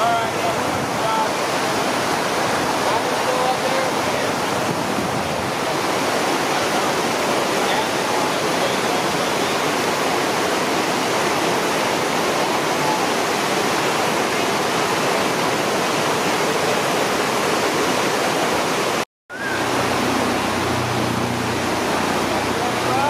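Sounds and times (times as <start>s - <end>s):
whitewater rapids rushing: 0.0s - 23.0s.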